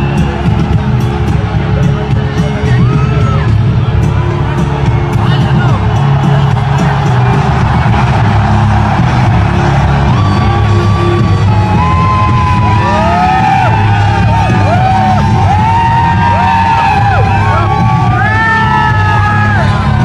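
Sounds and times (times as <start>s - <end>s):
crowd whooping and yelling: 0.0s - 20.0s
loud arena music with bass beat: 0.0s - 20.0s.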